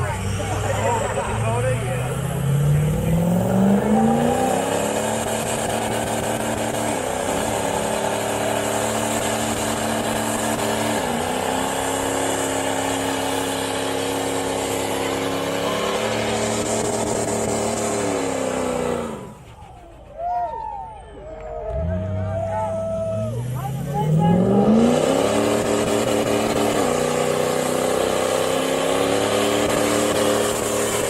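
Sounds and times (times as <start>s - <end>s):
truck engine revving: 0.0s - 31.0s.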